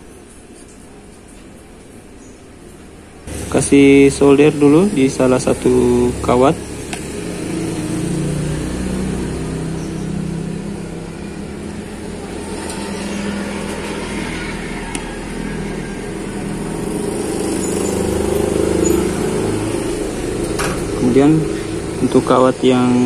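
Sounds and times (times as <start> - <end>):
engine humming: 3.2 - 23.0.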